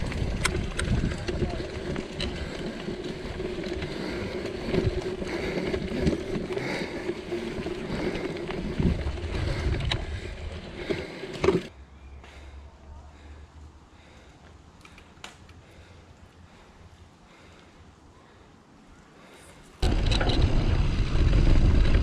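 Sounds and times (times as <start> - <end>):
bike tyre rumble and rattle: 0.0 - 12.5, 13.2 - 22.0.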